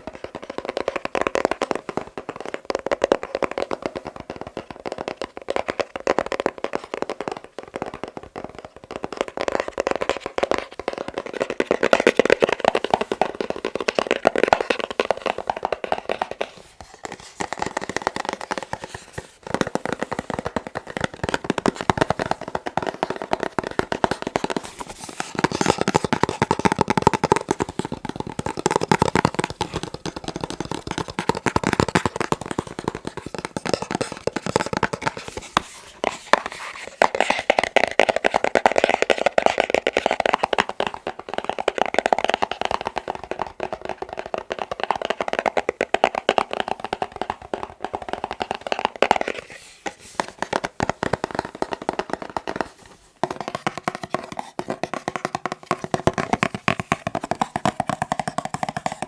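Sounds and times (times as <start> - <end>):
fingers tapping on boxes: 0.0 - 59.0.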